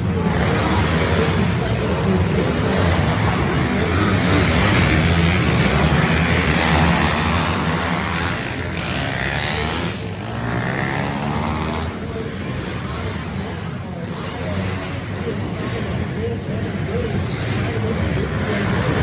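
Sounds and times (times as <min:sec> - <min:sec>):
pit bike engines revving: 0:00.0 - 0:19.0.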